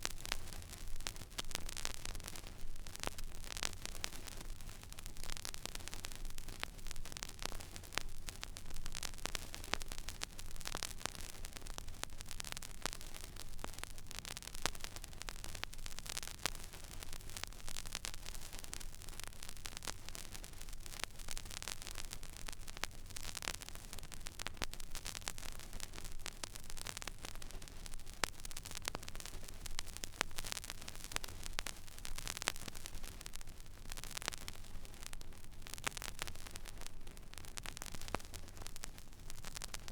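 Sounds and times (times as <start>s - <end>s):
vinyl surface hiss and crackle: 0.0s - 39.9s.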